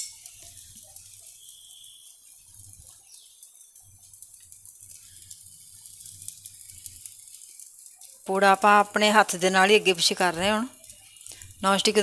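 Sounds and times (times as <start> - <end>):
pancake sizzling on griddle: 0.0 - 12.0
tiny crackles: 0.0 - 12.0.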